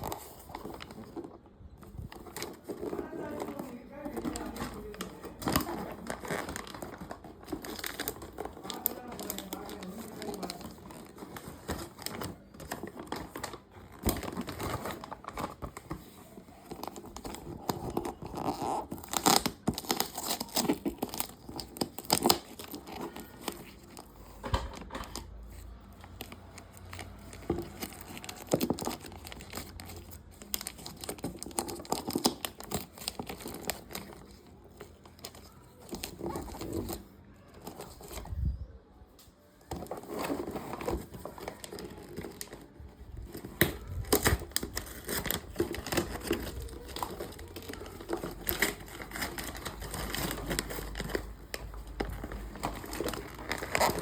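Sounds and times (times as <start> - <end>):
packaging crinkling and tearing: 0.0 - 38.6, 39.6 - 54.0.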